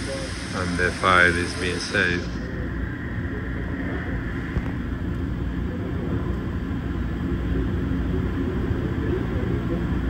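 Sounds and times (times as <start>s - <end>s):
shop machinery humming: 0.0s - 10.0s.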